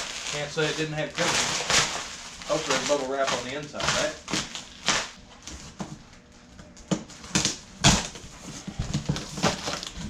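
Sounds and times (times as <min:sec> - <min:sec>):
bubble wrap and styrofoam crackling: 0:00.0 - 0:05.8, 0:07.2 - 0:10.0.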